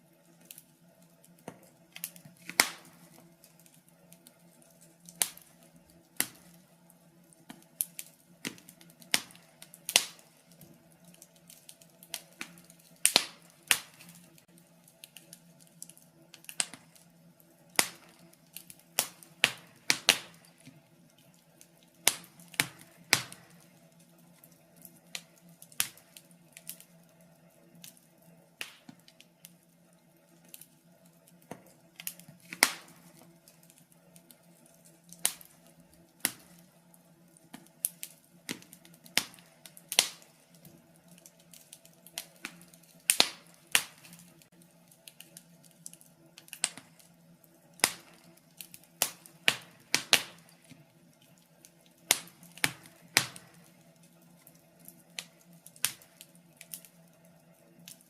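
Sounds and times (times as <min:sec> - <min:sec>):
faint steady hum: 0:00.0 - 0:58.0
wood fire crackling and popping: 0:00.0 - 0:58.0.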